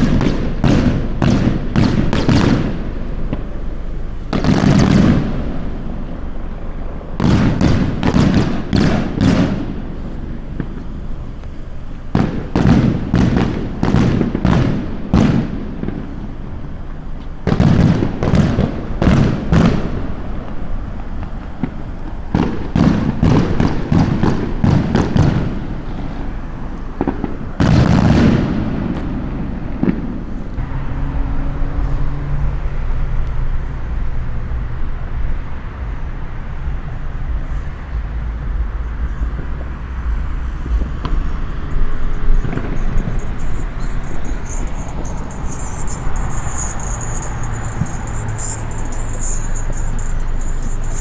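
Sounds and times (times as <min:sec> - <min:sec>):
fireworks exploding: 0:00.0 - 0:30.6, 0:35.2 - 0:51.0
vehicle low rumble: 0:00.0 - 0:51.0.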